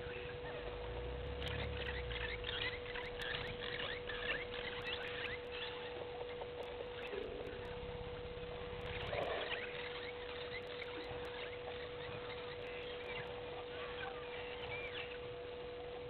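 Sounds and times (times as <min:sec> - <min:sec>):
low rumble: 0:00.0 - 0:15.9
faint steady hum: 0:00.0 - 0:16.0
small birds chirping: 0:00.0 - 0:16.0.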